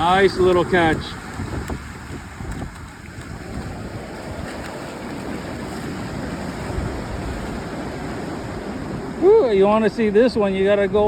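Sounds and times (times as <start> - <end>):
waves on open water: 0.0 - 11.0
wind buffeting microphone: 0.0 - 11.0.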